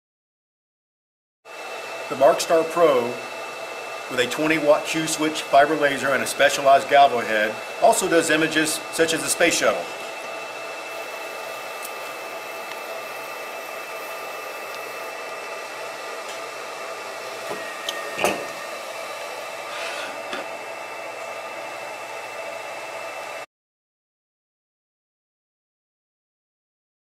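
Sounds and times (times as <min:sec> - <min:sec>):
laser engraver hissing and whining: 0:01.5 - 0:23.4.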